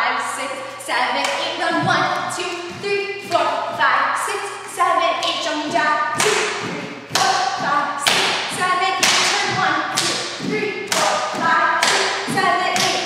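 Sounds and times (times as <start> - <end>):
person calling out dance counts: 0.0 - 13.0.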